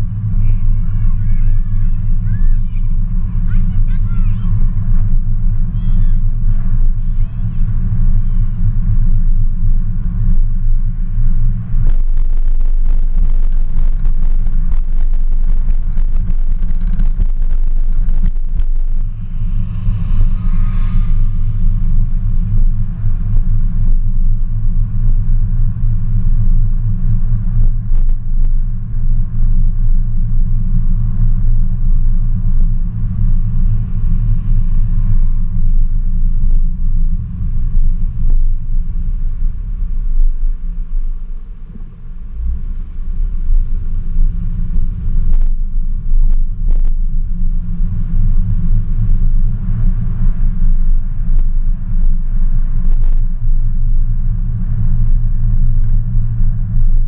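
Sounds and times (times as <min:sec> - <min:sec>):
car driving slowly: 0:00.0 - 0:57.0.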